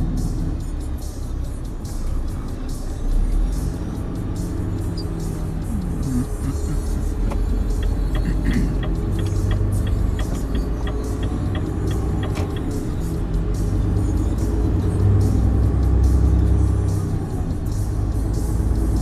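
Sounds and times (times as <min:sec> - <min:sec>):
diesel truck engine: 0:00.0 - 0:19.0
turn signal ticking: 0:03.5 - 0:19.0.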